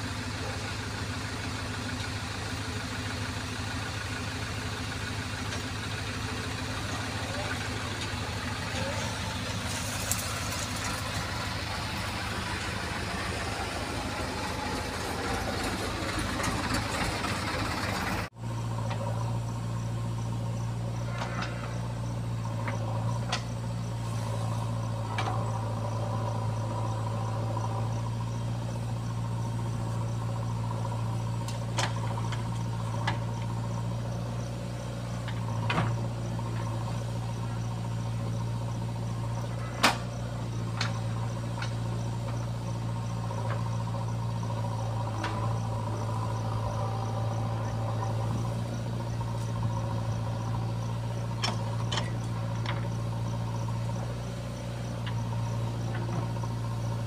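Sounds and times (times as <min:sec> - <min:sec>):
diesel engine droning: 0:00.0 - 0:57.0
crickets chirping: 0:05.5 - 0:57.0.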